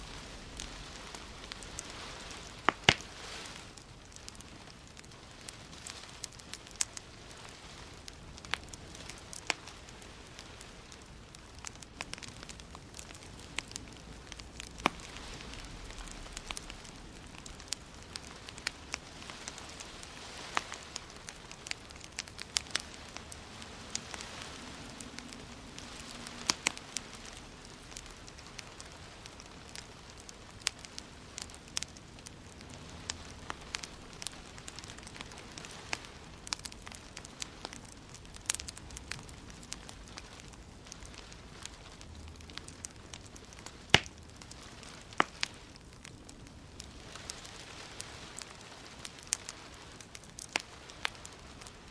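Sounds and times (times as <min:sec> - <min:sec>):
gentle rain hiss: 0:00.0 - 0:51.9
wood fire crackling and popping: 0:00.0 - 0:51.9.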